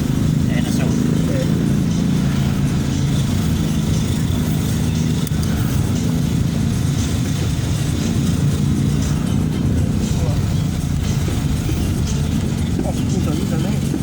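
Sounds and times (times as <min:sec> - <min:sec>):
road noise: 0:00.0 - 0:14.0
vehicle engine running: 0:00.0 - 0:14.0.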